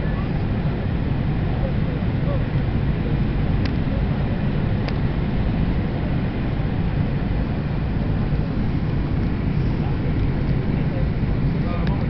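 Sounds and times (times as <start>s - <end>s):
jet cabin roar: 0.0s - 12.0s.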